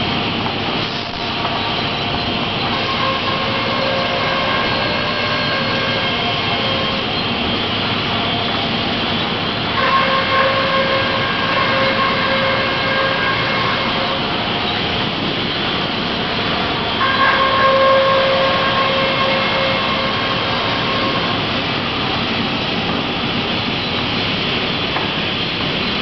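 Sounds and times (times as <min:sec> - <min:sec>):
sawmill machine rumble: 0:00.0 - 0:26.0
saw blades whining: 0:01.3 - 0:22.6.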